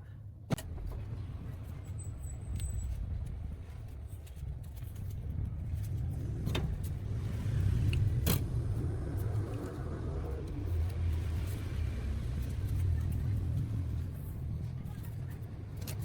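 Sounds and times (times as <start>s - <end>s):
steady low hum: 0.5s - 16.0s.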